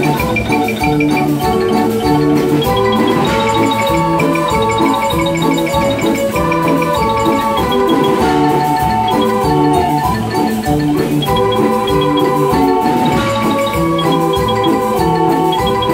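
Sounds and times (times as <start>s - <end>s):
barrel organs playing a tune: 0.0s - 15.9s
bright bell-like notes: 0.0s - 15.9s.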